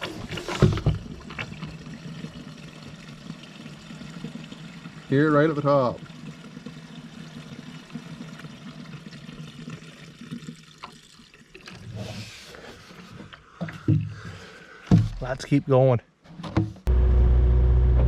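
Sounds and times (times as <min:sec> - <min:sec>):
fuel pouring into a tank: 0:00.0 - 0:15.0.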